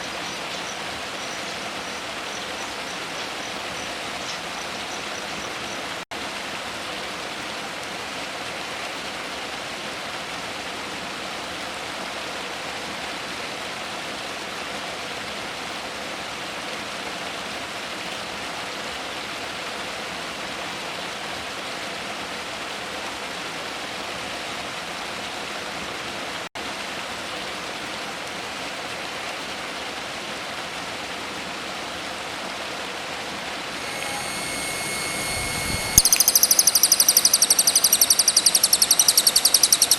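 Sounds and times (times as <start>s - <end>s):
rushing water or rain: 0.0s - 39.9s.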